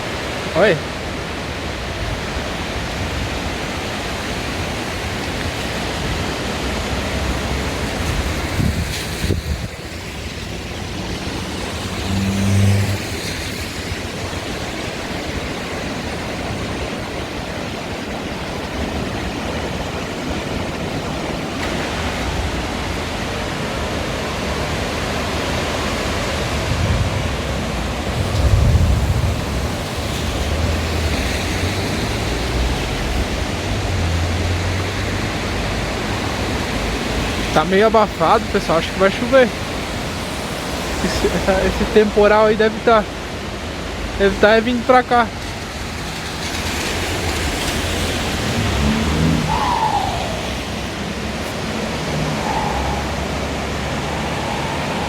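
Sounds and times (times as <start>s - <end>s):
sea: 0.0s - 55.0s
wind: 0.0s - 55.0s
low rumbles: 4.4s - 38.8s, 45.3s - 55.0s.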